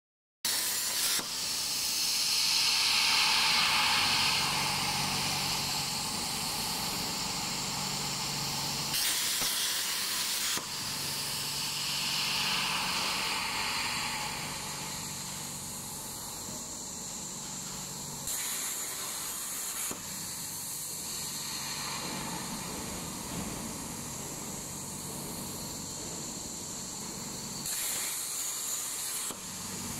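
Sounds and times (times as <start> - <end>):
plasma torch hissing: 0.5 - 29.9.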